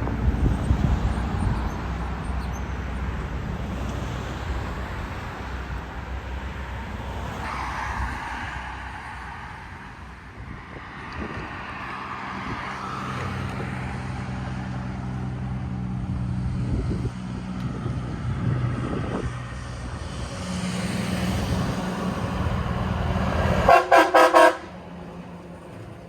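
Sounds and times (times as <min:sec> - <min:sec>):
diesel locomotive engine humming: 0:00.0 - 0:26.0.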